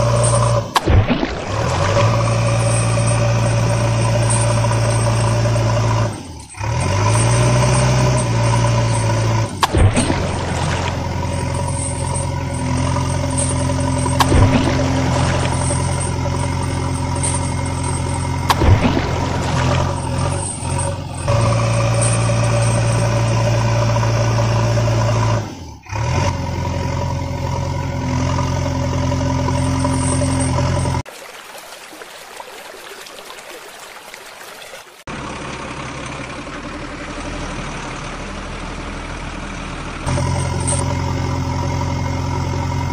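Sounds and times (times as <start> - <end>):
truck engine idling: 1.6 - 31.0, 35.1 - 42.9.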